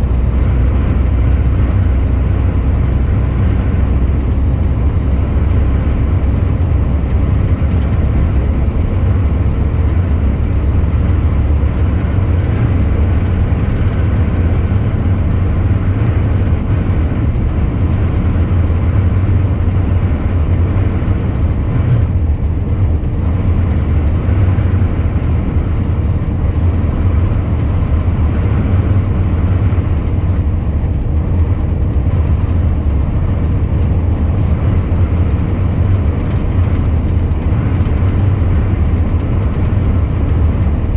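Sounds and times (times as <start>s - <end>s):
road noise: 0.0s - 40.9s
truck engine rumbling: 0.0s - 40.9s.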